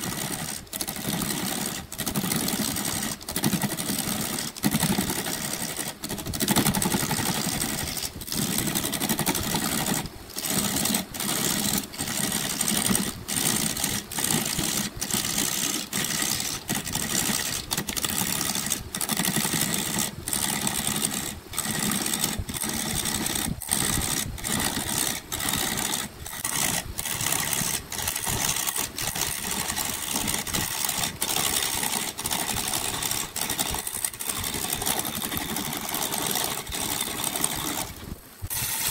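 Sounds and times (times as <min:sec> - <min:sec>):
wood lathe gouge scraping: 0:00.0 - 0:38.9.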